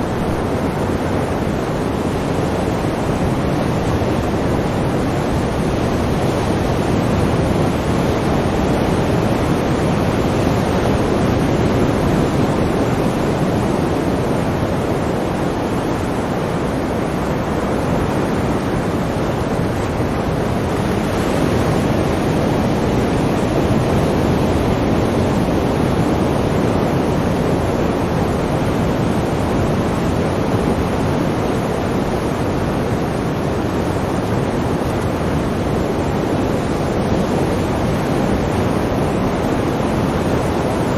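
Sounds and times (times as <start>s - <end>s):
sea waves washing: 0.0s - 40.9s.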